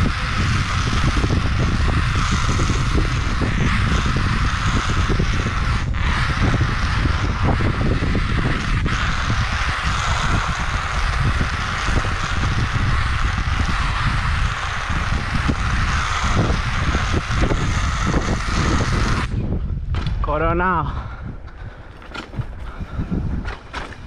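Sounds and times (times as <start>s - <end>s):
road noise: 0.0s - 19.6s
wind buffeting microphone: 0.0s - 24.0s.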